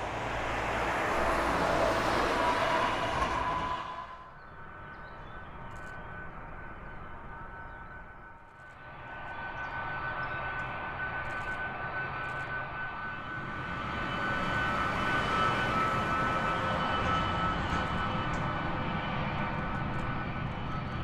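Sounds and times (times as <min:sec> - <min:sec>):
jet engines whining: 0:00.0 - 0:05.5, 0:08.9 - 0:21.0.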